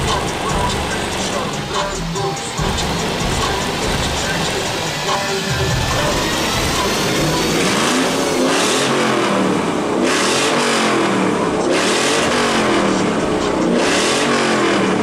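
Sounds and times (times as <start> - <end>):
car engine revving loudly: 0.0 - 15.0.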